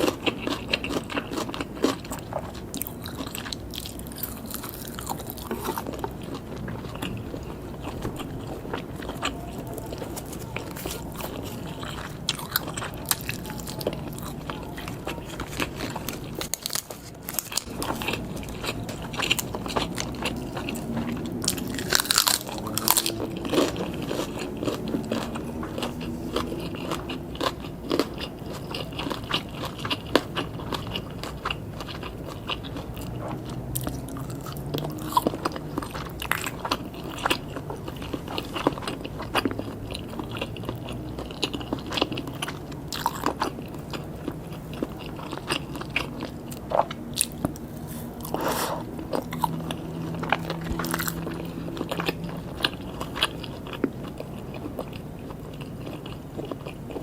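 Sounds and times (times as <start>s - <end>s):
biting and chewing food: 0.0s - 57.0s.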